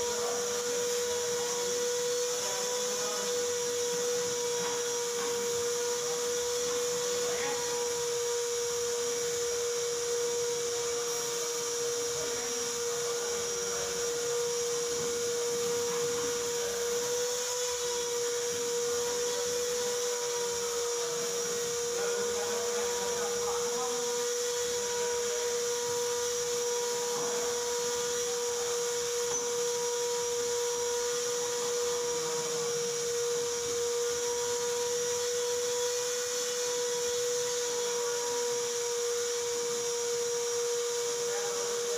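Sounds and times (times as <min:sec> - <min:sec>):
machine whining: 0:00.0 - 0:41.9.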